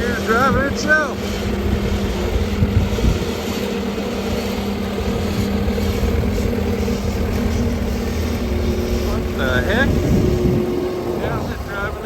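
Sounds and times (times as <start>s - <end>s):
skid steer engine droning: 0.0s - 12.0s.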